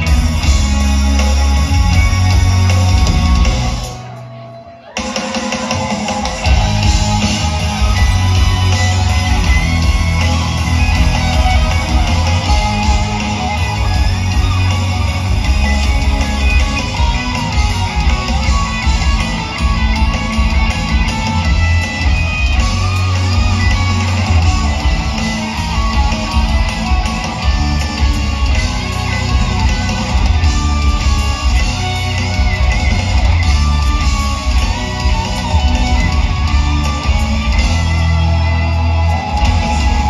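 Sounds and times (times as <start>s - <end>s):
live heavy metal band: 0.0s - 40.0s.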